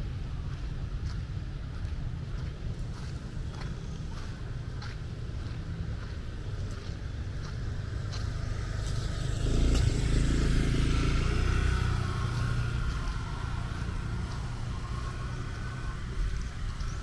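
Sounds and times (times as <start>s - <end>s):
steady low rumble: 0.0s - 17.0s
vehicle engine passing by: 2.9s - 17.0s.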